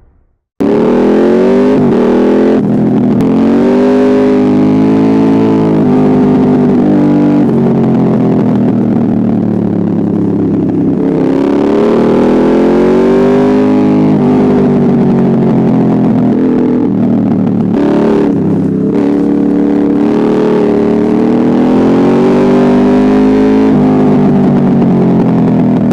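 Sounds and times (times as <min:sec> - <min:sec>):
loud motorcycle engine: 0:00.0 - 0:25.9.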